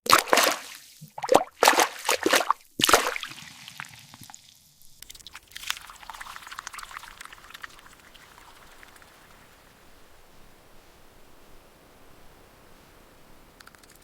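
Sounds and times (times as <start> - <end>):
liquid splashing: 0.0 - 11.5
water dripping: 0.0 - 14.0
faint crackling fizz: 0.1 - 14.0.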